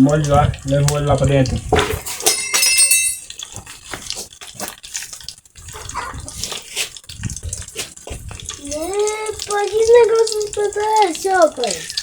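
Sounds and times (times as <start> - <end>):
water dripping: 0.0 - 12.0
water running and splashing: 0.0 - 12.0.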